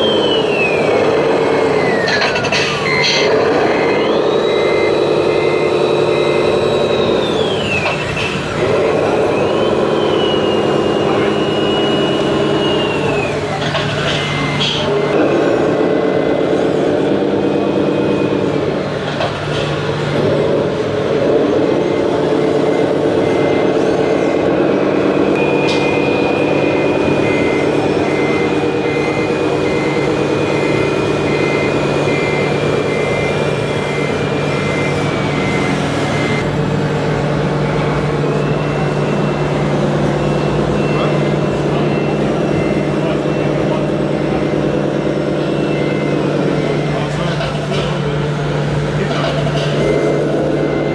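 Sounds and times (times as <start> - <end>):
reversing beeper: 0.0 - 50.9
simulated diesel engine: 0.0 - 50.9.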